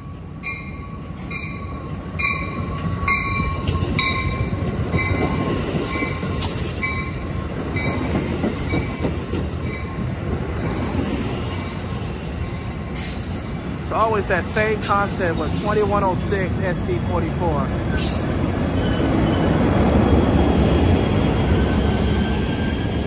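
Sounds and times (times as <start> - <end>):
train cars rumbling on rails: 0.0 - 23.0.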